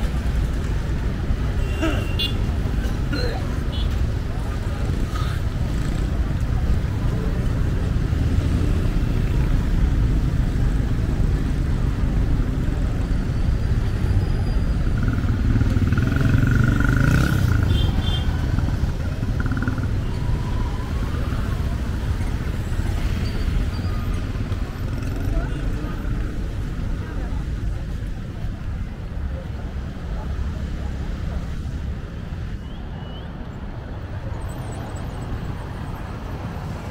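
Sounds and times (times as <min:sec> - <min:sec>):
motorcycles and cars passing: 0:00.0 - 0:36.9.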